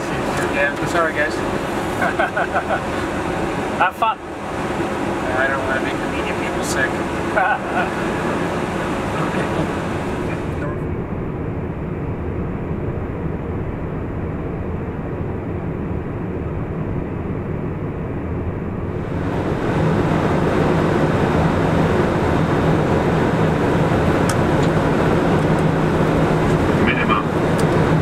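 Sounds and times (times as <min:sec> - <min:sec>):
airflow and engine noise: 0:00.0 - 0:28.0
steady low hum: 0:00.0 - 0:28.0.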